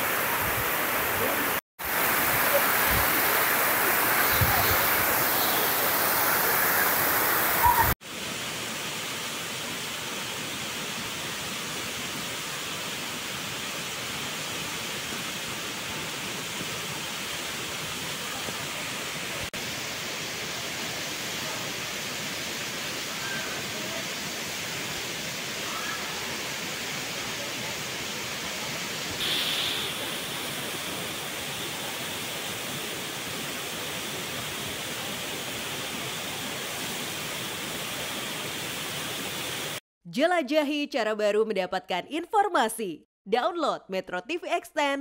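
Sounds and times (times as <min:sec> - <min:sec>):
waterfall roaring: 0:00.0 - 0:08.0, 0:09.7 - 0:39.8.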